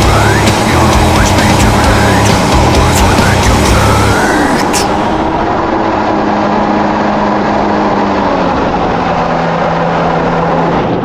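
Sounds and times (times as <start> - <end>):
jet ski engine running: 0.0 - 11.0.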